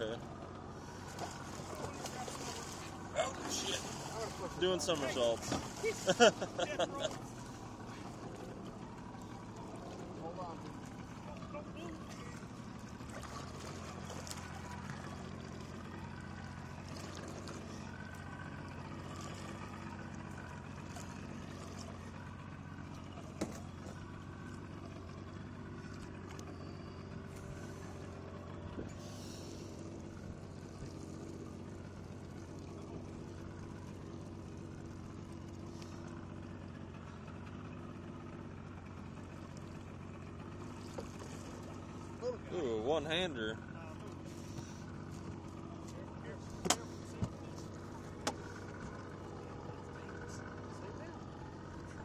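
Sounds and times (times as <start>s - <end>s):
boat engine idling: 0.0s - 52.0s.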